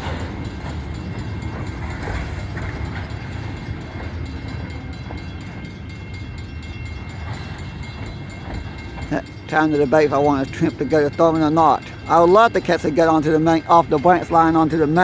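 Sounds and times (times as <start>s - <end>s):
train cars rumbling past: 0.0s - 15.0s
wheels clicking on rails: 0.0s - 15.0s.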